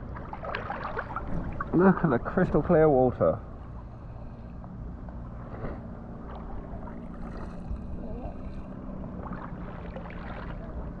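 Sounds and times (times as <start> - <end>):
boat engine running: 0.0 - 11.0
faint water splashes: 0.0 - 11.0.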